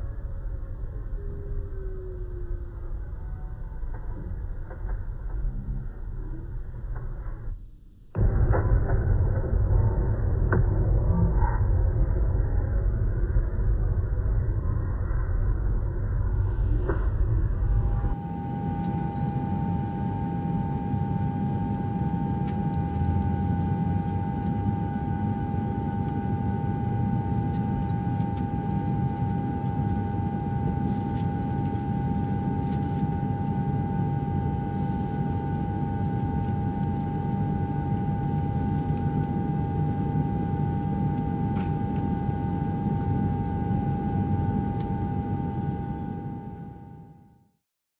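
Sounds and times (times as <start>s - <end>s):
jet airliner rumble and whine: 0.0s - 7.6s, 8.2s - 47.6s.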